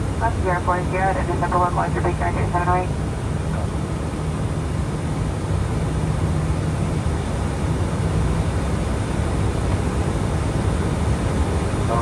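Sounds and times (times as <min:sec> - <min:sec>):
airliner cabin air and engine rush: 0:00.0 - 0:12.0
low steady hum: 0:00.0 - 0:12.0.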